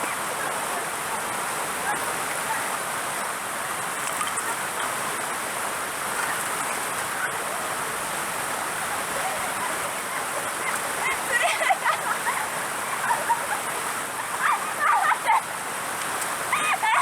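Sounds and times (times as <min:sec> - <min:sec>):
stream flowing over rocks: 0:00.0 - 0:17.0.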